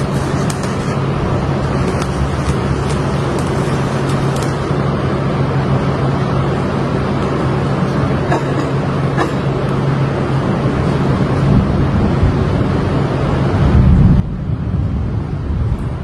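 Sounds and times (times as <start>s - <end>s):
machine drone with rushing noise: 0.0s - 16.0s.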